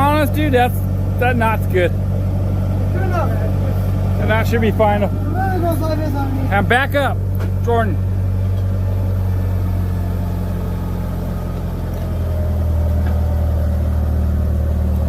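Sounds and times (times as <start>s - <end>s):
vehicle engine idling low: 0.0s - 15.0s.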